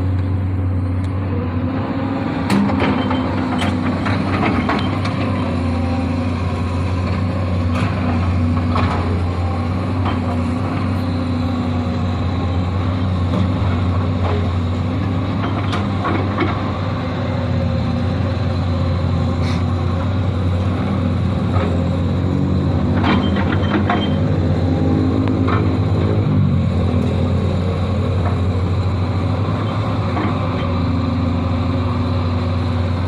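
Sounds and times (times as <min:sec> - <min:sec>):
excavator diesel engine humming: 0:00.0 - 0:33.0.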